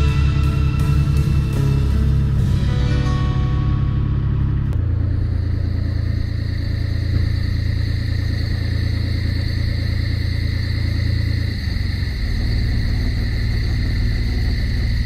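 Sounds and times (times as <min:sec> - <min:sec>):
boat engine humming: 0:00.0 - 0:15.0
faint engine whine: 0:00.0 - 0:15.0.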